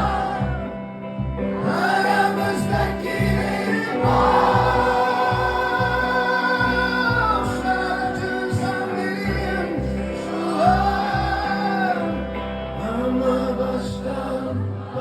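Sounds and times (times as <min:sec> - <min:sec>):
pulsing bass: 0:00.0 - 0:15.0
person singing long notes: 0:01.5 - 0:15.0.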